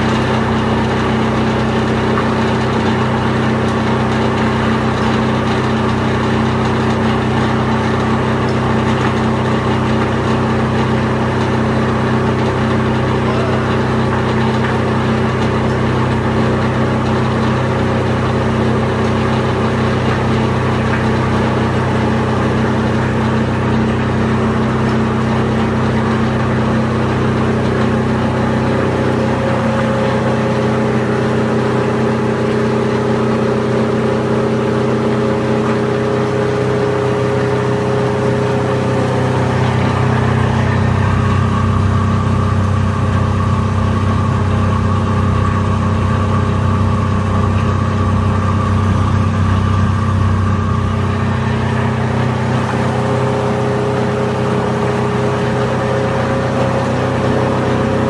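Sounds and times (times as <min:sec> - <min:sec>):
machine hum with low tones: 0:00.0 - 0:58.0.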